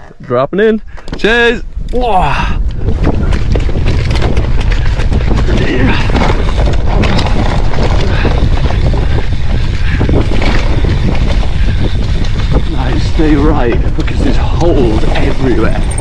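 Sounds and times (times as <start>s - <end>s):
wind rushing on microphone: 0.8s - 16.0s
bike clattering over bumps: 2.7s - 16.0s.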